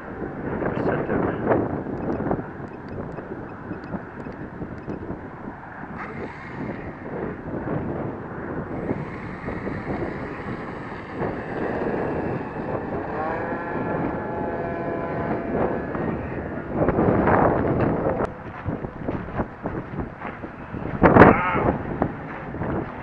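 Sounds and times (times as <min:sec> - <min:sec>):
electric motor and propeller whine: 0:00.0 - 0:23.0
wind buffeting microphone: 0:00.0 - 0:23.0.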